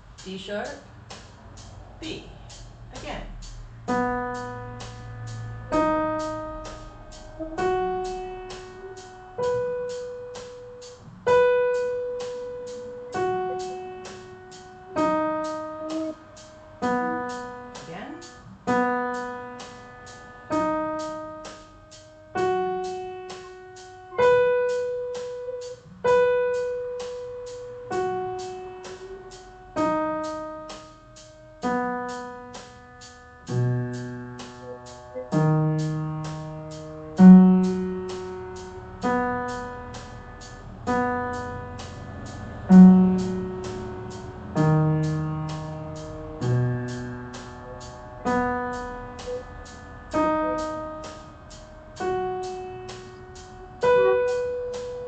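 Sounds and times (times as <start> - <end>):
piano arpeggio: 3.7 - 55.0.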